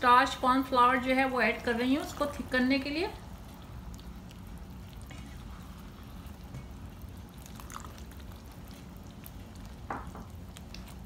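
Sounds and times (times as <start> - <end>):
sauce bubbling: 0.0 - 11.0.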